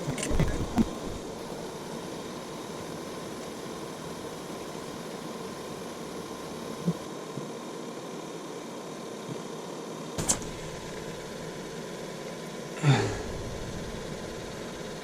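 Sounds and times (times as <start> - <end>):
faint even hum: 0.0 - 15.0
steady mechanical hiss: 0.0 - 15.0.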